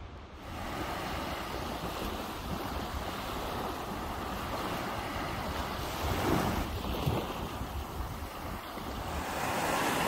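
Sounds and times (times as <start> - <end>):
small waves washing on shore: 0.0 - 10.0
wind rumbling on microphone: 0.0 - 10.0.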